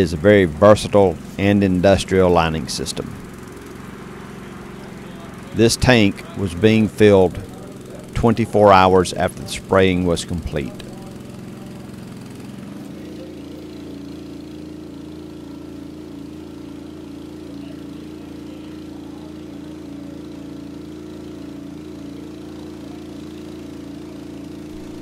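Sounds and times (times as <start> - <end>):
motor running steadily: 0.0 - 25.0.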